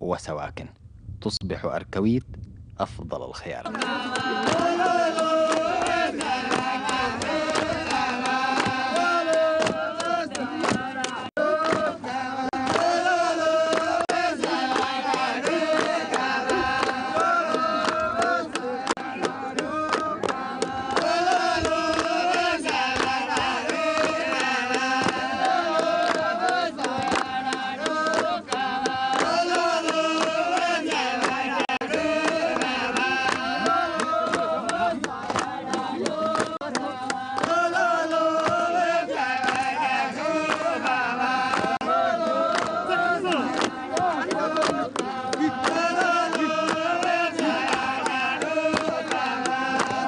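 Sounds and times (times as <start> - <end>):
men chanting in unison: 3.6 - 50.0
sharp hand claps: 3.7 - 50.0.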